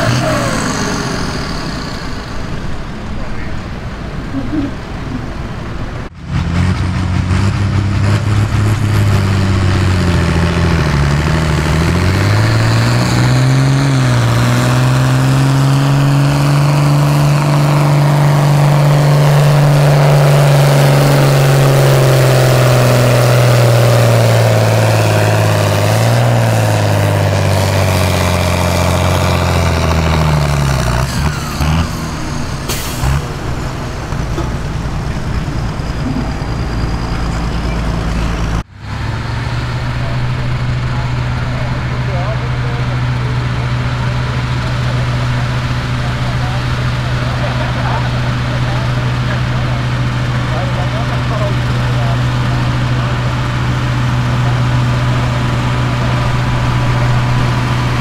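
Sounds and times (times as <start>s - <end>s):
tractor diesel engine straining: 0.0s - 58.0s.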